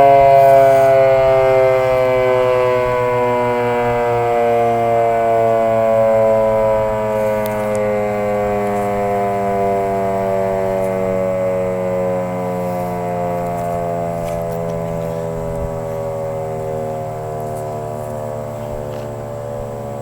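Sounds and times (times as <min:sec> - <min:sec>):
electromechanical siren howling: 0:00.0 - 0:20.0.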